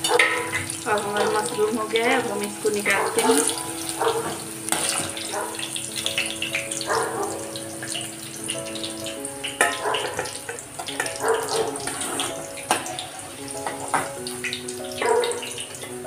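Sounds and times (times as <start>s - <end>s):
food sizzling in hot oil: 0.0s - 16.0s
skimmer clinking against pan: 0.0s - 16.0s
soft background music: 0.0s - 16.0s.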